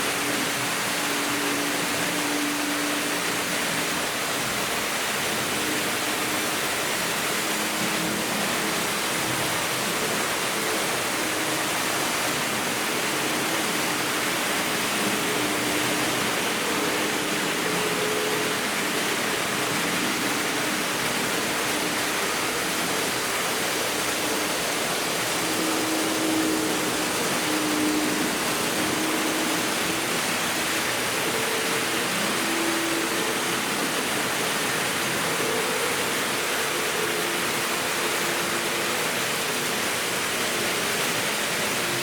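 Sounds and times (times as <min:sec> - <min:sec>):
model train wheels hissing on track: 0:00.0 - 0:42.0.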